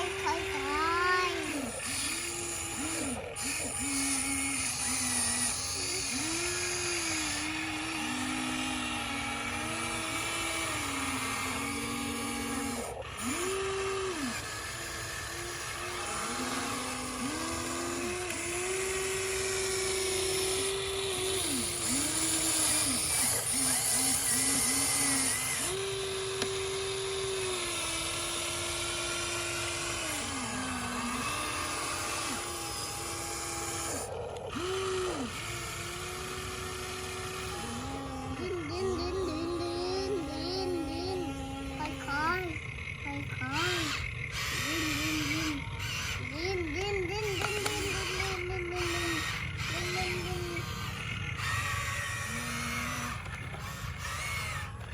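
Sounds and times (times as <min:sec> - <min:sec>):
toy excavator motors whining: 0:00.0 - 0:54.9.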